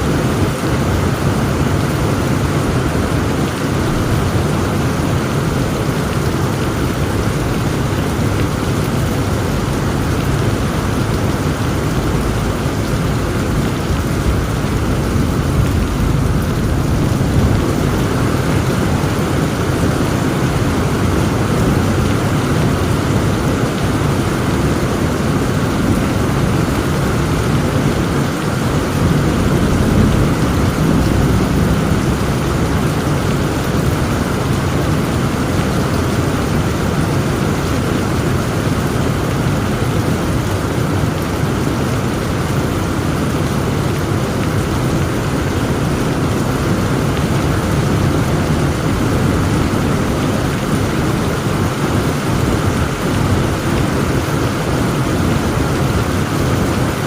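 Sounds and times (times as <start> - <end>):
thunder rumbling: 0.0 - 37.7, 44.6 - 56.2
heavy rain pouring: 0.0 - 57.0.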